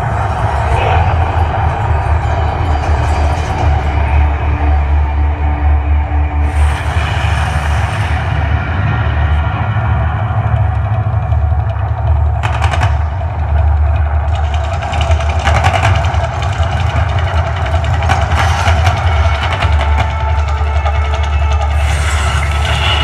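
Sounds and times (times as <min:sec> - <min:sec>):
deep rumble: 0:00.0 - 0:23.0.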